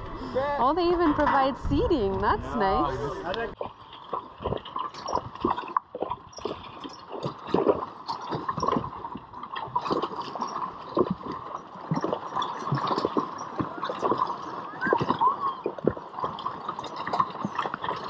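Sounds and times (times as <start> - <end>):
flowing water rushing: 0.0 - 18.0
hooves splashing in river: 0.0 - 18.0.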